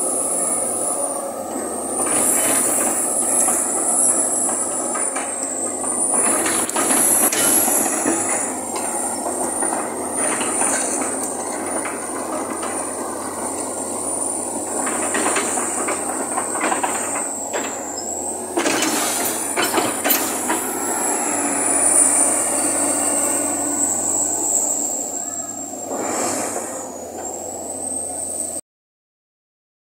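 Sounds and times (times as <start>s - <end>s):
crawler tracks clanking: 0.0s - 28.5s
diesel engine under load: 0.0s - 28.6s.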